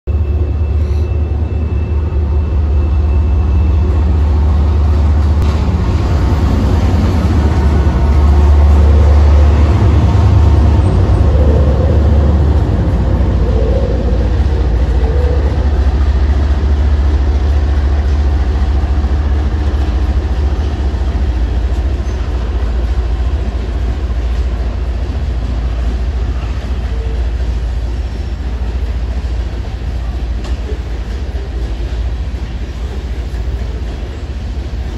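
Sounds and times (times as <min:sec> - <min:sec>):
hopper cars rolling: 0:00.1 - 0:34.9
locomotives rumbling past: 0:00.1 - 0:34.9.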